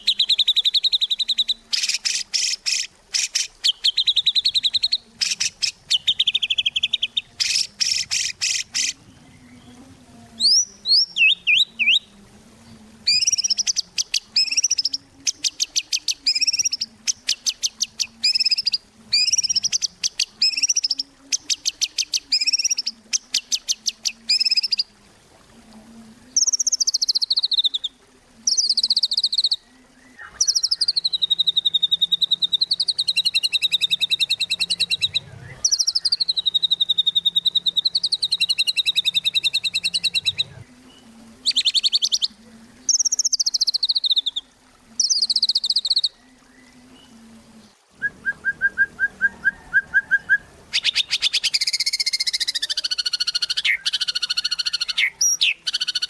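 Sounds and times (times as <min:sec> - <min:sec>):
songbird singing rattling notes: 0:00.0 - 0:24.9, 0:26.4 - 0:56.0.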